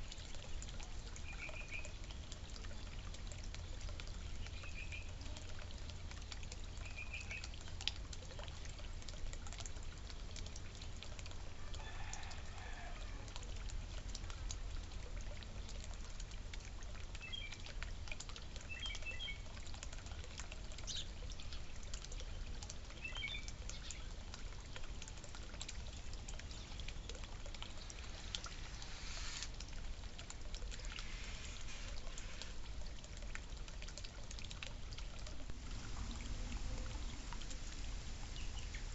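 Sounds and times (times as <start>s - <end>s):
water fountain trickling: 0.0s - 38.9s.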